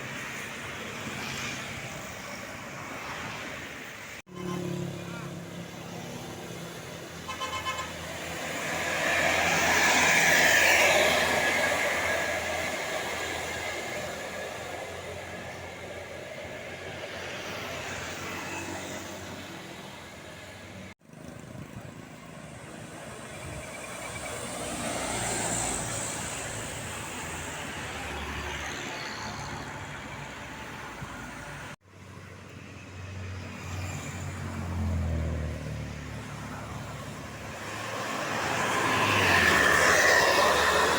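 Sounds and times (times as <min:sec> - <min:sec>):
buses passing by: 0:00.0 - 0:40.9.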